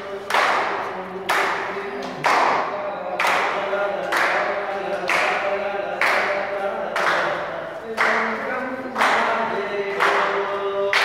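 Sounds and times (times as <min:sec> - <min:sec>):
crowd clapping in rhythm: 0:00.0 - 0:11.0.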